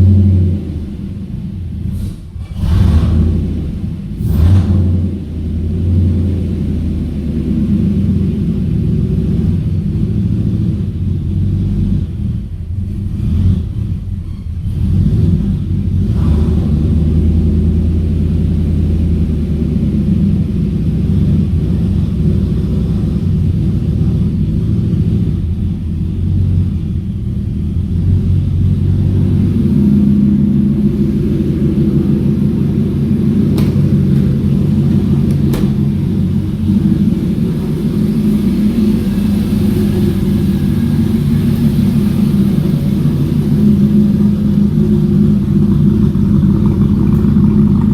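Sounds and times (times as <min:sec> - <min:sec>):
truck engine idling: 0:00.0 - 0:47.9.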